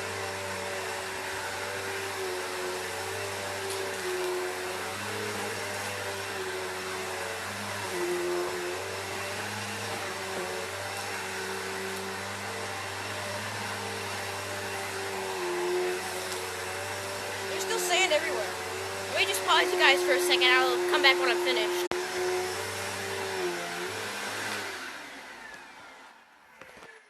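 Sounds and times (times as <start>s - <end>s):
vacuum cleaner sucking dirt: 0.0s - 27.0s.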